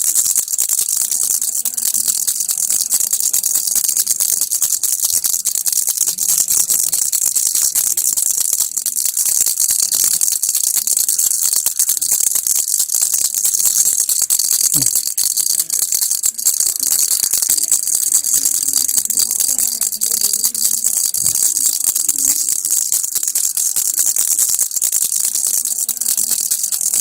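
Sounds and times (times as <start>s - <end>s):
baby's rattle shaken: 0.0s - 27.0s.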